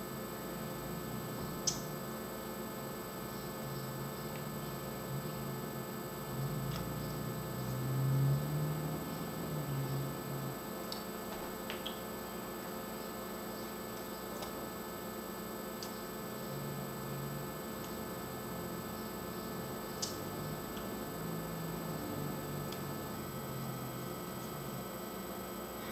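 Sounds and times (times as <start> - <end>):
electrical hum and hiss: 0.0 - 25.9.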